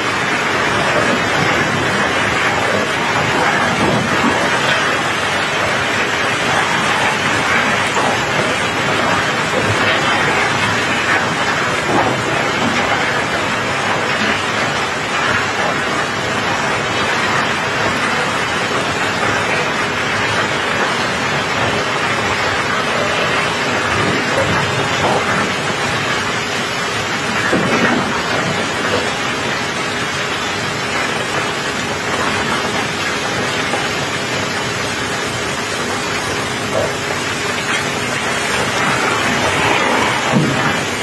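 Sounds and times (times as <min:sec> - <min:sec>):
rain on steel deck: 0:00.0 - 0:41.0.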